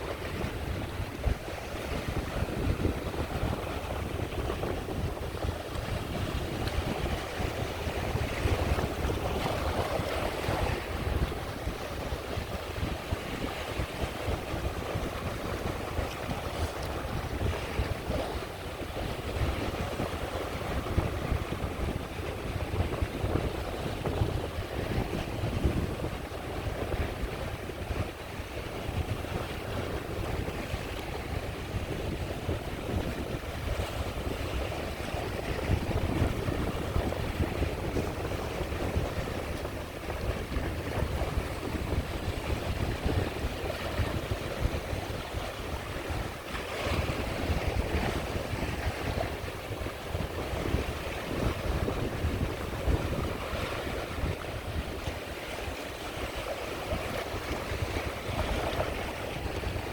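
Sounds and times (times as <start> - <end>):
sea waves washing onto shore: 0.0 - 59.9
wind buffeting microphone: 0.0 - 59.9.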